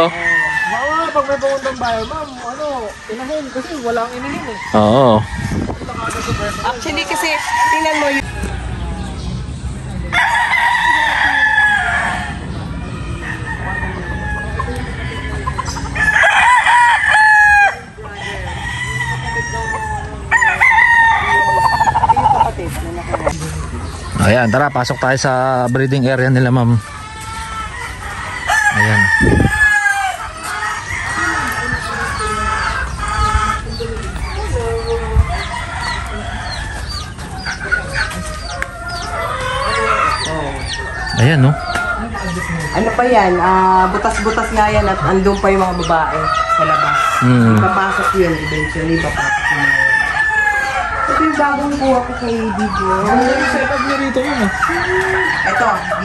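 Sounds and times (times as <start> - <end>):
roosters crowing: 0.0 - 56.0.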